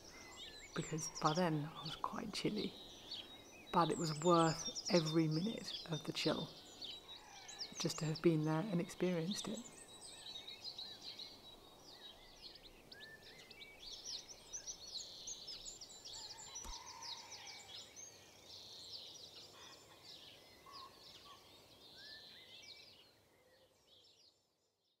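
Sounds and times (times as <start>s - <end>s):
songbirds chirping and singing: 0.0s - 24.4s.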